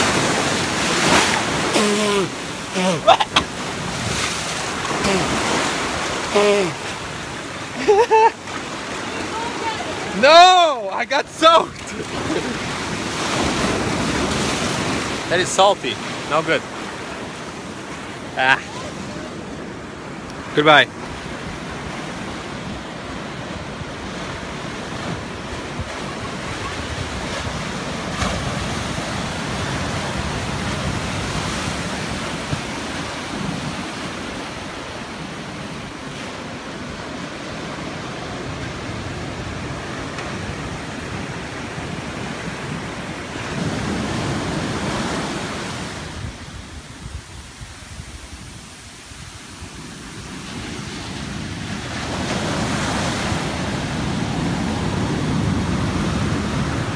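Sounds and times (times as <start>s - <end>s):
ocean surf breaking over rocks: 0.0s - 56.9s.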